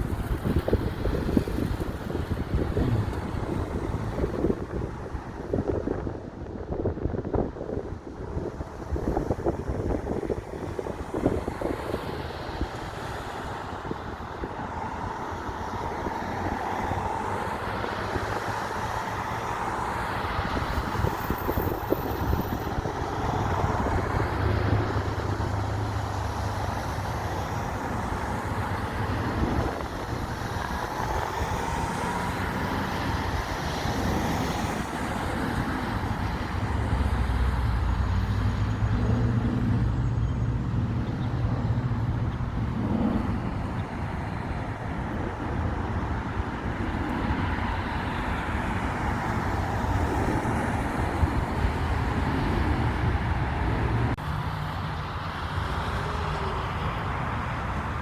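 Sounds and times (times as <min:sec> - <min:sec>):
engine rumble: 0:00.0 - 0:07.8, 0:16.3 - 0:58.0
wind buffeting the microphone: 0:00.0 - 0:54.3.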